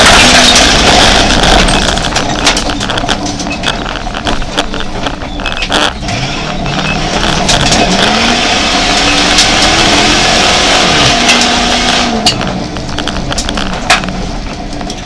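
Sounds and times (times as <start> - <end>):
car engine revving: 0.0 - 15.0
road and tyre noise: 0.0 - 15.0.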